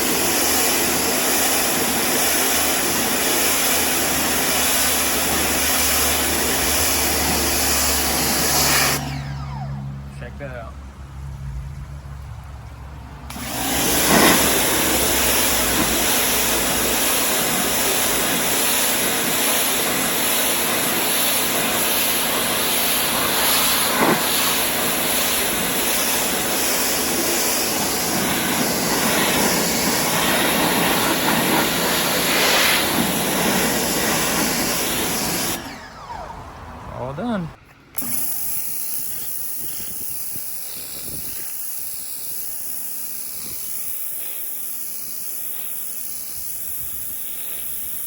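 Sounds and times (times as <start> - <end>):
pressure washer spraying: 0.0 - 9.8, 13.3 - 35.8, 37.9 - 48.0.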